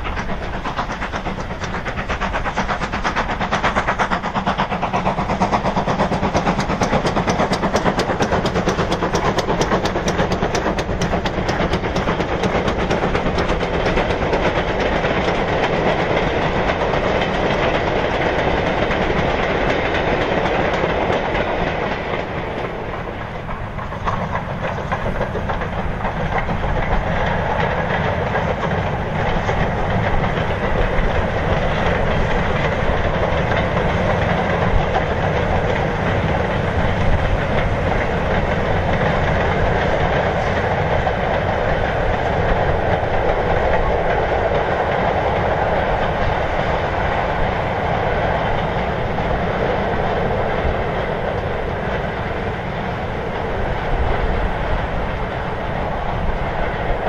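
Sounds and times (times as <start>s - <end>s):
goods train wheels rumbling on rails: 0.0s - 57.0s.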